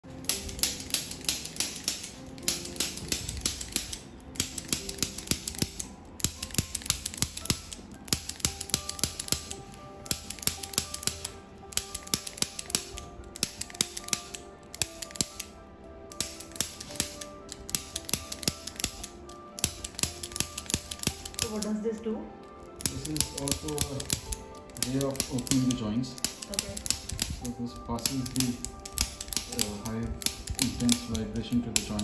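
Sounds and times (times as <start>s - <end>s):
background music with clicking beat: 0.0s - 32.0s.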